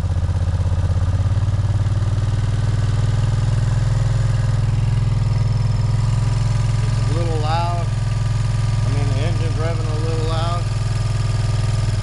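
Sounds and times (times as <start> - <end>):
motorcycle engine fast idle: 0.0 - 12.0.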